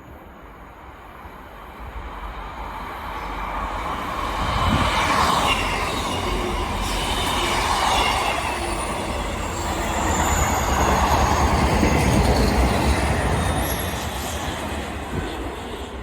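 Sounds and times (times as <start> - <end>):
train wheels rumbling: 2.0 - 16.0.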